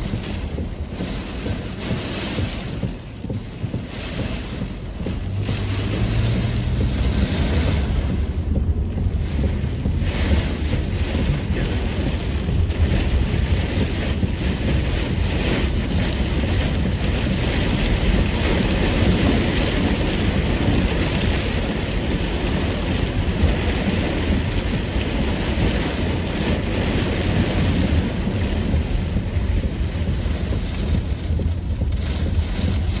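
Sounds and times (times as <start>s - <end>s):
torrential rain: 0.0s - 33.0s
wind buffeting microphone: 0.0s - 33.0s.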